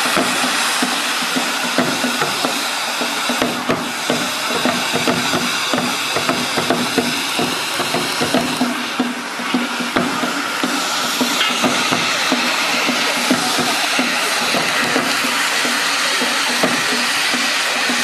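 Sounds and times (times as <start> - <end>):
fireworks rushing hiss: 0.0 - 18.0.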